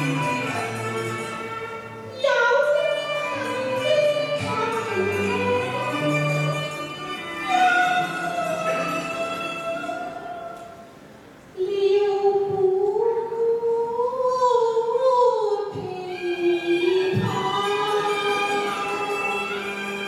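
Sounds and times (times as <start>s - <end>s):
opera music with sliding notes: 0.0s - 20.0s.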